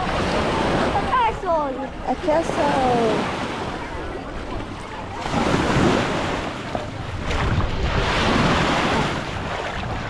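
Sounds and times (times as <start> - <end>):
sea waves washing onto beach: 0.0 - 10.0
wind buffeting microphone: 0.0 - 10.0.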